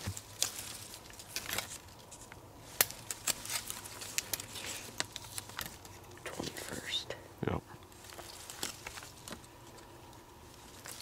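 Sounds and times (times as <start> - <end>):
paper rustling and clicks: 0.0 - 6.5, 8.0 - 11.0.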